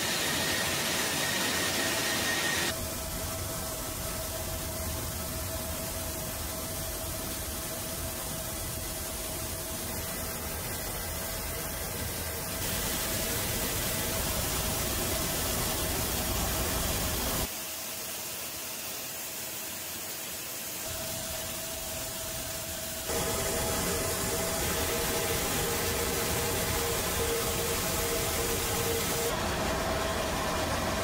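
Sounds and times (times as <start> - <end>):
water jets spraying on steel: 0.0 - 31.0.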